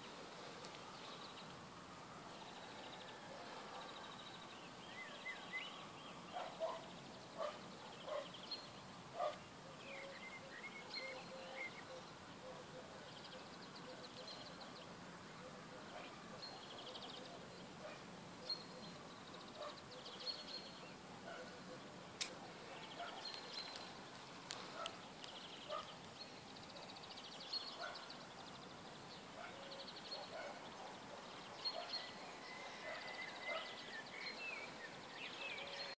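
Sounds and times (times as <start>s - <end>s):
songbirds singing trilled phrases: 3.9s - 36.0s.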